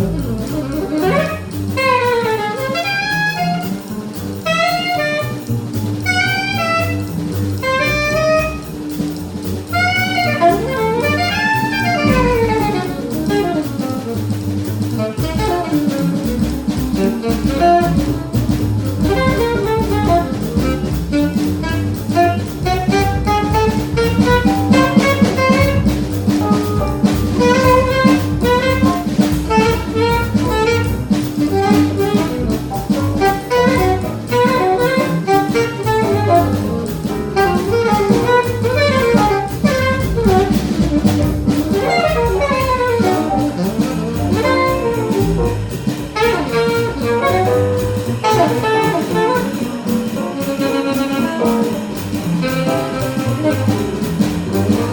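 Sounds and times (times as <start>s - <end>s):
horn playing fast runs: 0.0s - 8.8s, 9.7s - 54.9s
bass: 0.0s - 54.9s
drum kit: 0.0s - 54.9s.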